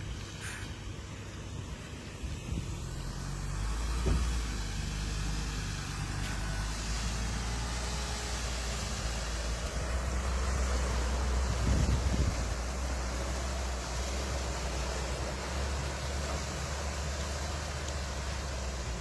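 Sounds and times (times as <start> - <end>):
hiss: 0.1 - 19.0.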